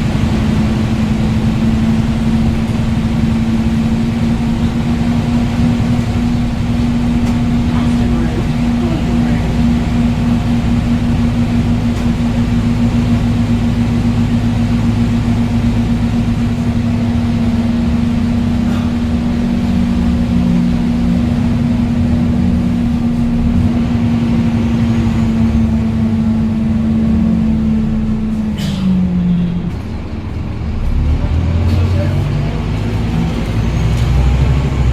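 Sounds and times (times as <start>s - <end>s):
bus diesel engine droning: 0.0s - 34.9s.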